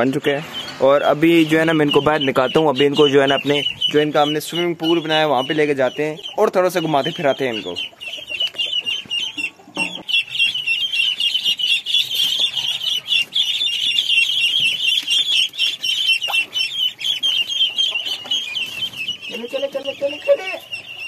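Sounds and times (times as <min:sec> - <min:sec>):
ducklings peeping: 0:00.0 - 0:21.0.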